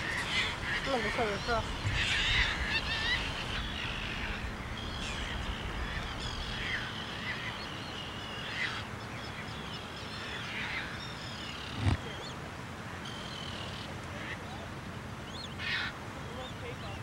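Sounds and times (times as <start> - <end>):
flock of birds chattering: 0.0 - 17.0
steady background hiss: 0.0 - 17.0.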